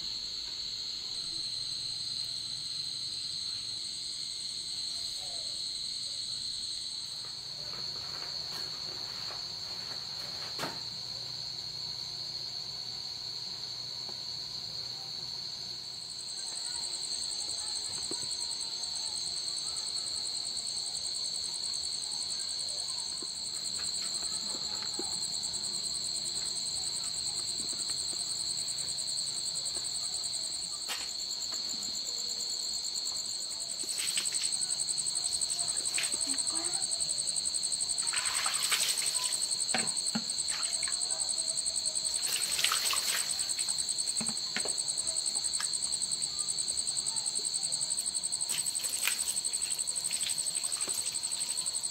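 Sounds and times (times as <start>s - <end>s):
insects trilling: 0.0s - 51.9s.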